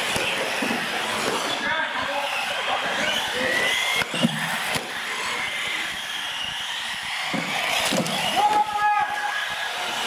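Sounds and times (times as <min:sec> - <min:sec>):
toy truck electric motors whining: 0:00.0 - 0:10.0.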